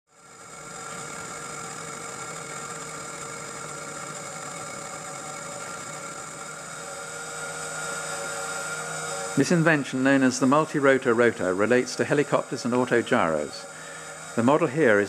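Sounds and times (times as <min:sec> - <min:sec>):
motor and gear whine: 0:00.1 - 0:15.0.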